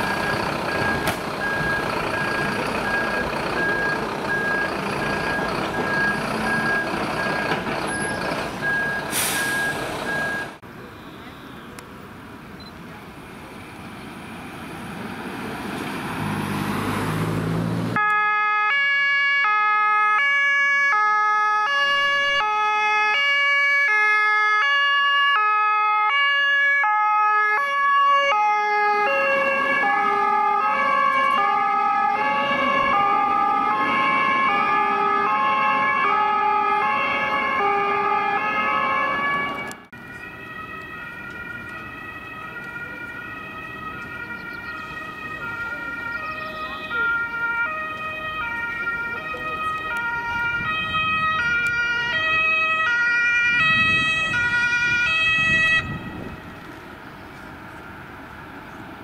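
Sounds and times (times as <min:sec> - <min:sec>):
two-tone emergency sirens: 0:00.0 - 0:10.6, 0:18.0 - 0:56.8
vehicle engine and road noise: 0:00.0 - 0:59.0.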